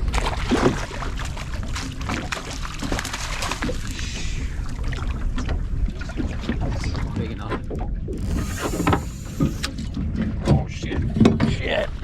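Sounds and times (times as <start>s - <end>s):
water splashing against boat hull: 0.0s - 11.8s.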